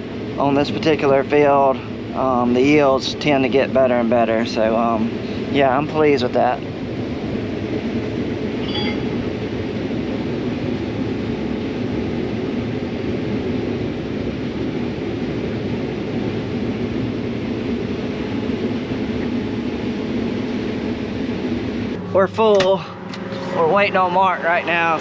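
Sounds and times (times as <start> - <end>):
combine harvester droning: 0.0 - 25.0.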